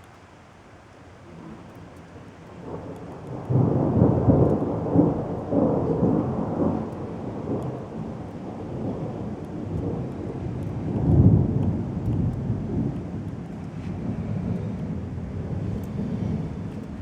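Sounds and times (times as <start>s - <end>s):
thunder rumbling: 1.5s - 17.0s.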